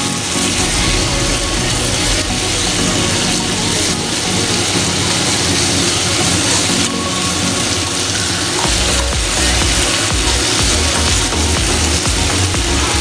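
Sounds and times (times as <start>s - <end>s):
heavy low bass: 0.0s - 7.7s, 8.6s - 13.0s
beef sizzling in a pan: 0.0s - 13.0s.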